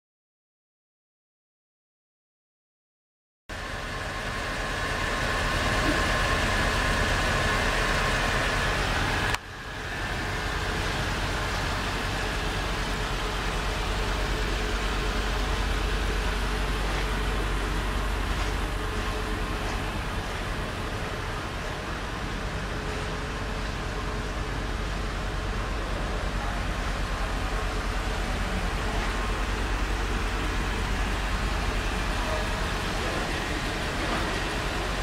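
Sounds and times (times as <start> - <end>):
car engine idling: 3.5 - 35.0.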